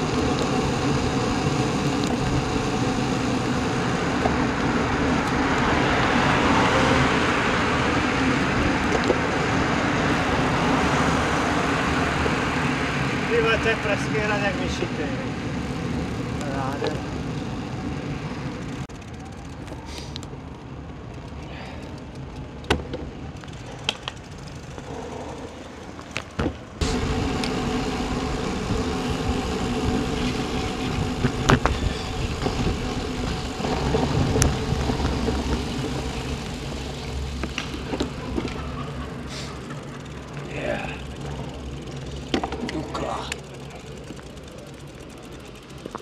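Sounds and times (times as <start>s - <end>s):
car traffic: 0.0s - 46.0s
wind and tyre rumble: 0.0s - 46.0s.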